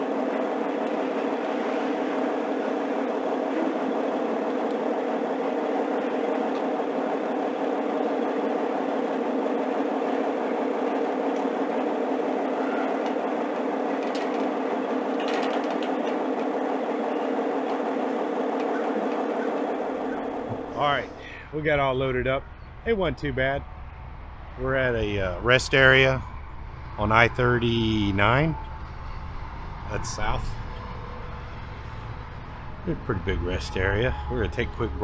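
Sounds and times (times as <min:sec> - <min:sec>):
machinery drone: 0:00.0 - 0:35.0.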